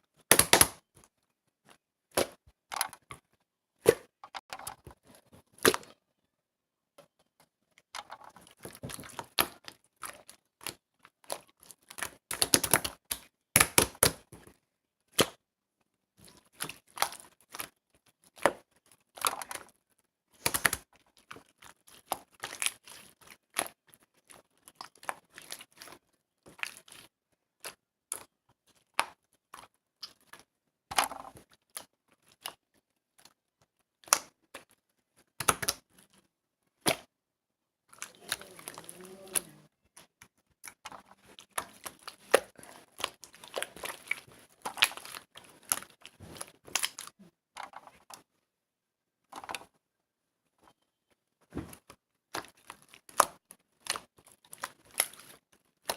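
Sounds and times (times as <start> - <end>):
slime squelching and popping: 0.1 - 6.3, 7.2 - 15.5, 16.1 - 37.2, 37.8 - 48.4, 50.6 - 55.9.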